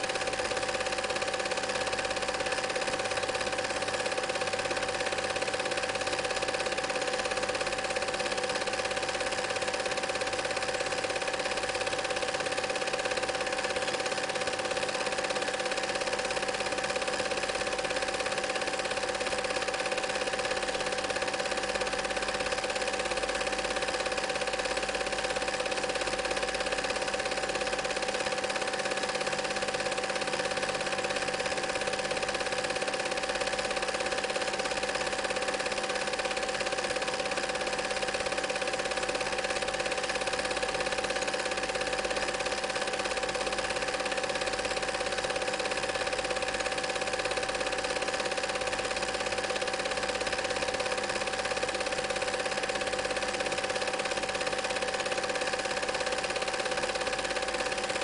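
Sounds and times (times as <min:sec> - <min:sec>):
film projector clatter: 0:00.0 - 0:58.0.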